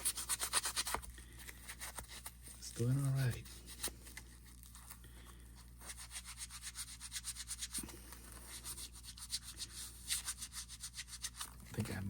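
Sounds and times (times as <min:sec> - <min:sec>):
sponge rubbing: 0:00.0 - 0:11.6.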